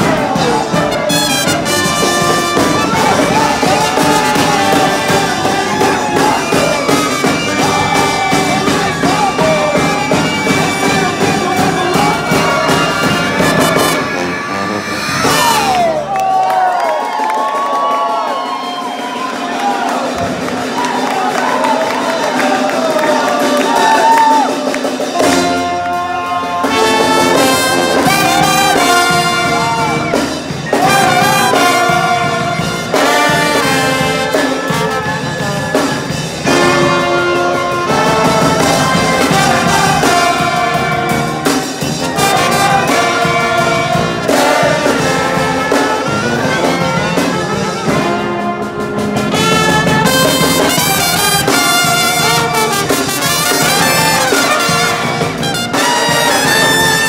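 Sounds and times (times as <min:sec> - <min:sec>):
snare drum: 0:00.0 - 0:16.1, 0:17.0 - 0:57.0
trumpets and trombone: 0:00.0 - 0:18.1, 0:21.1 - 0:57.0.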